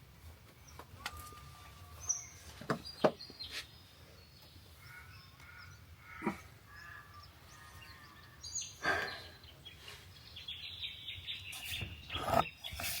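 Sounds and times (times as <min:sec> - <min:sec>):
birds chirping and calling: 0:00.6 - 0:13.0.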